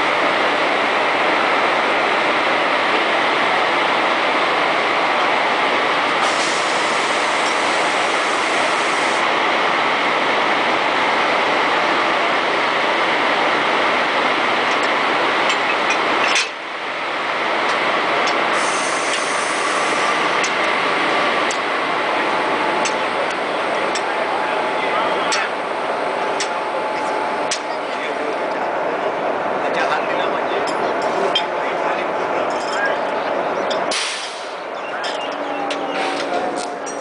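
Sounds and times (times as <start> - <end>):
locomotive machinery whirring roar: 0.0 - 37.0.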